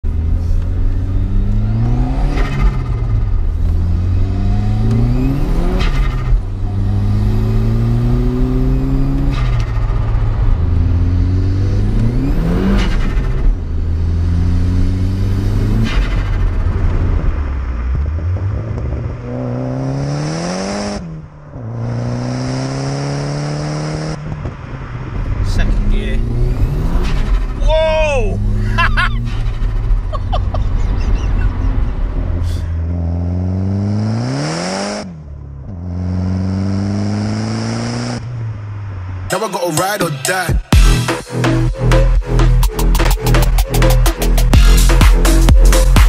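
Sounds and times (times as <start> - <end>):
car engine accelerating through gears: 0.0 - 39.2.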